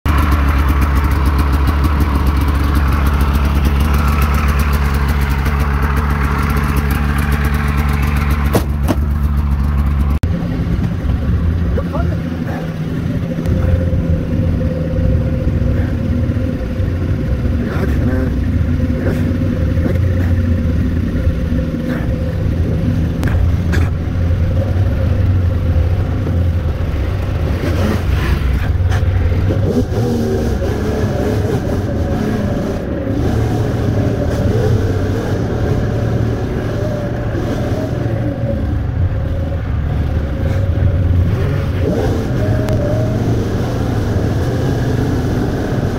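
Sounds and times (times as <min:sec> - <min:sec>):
snowmobile engine running: 0:00.1 - 0:45.9.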